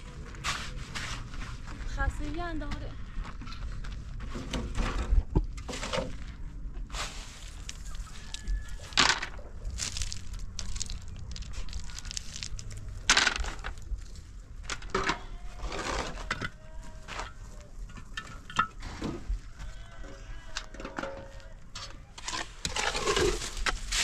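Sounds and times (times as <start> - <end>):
hand tool scraping and crunching: 3.4 - 24.0.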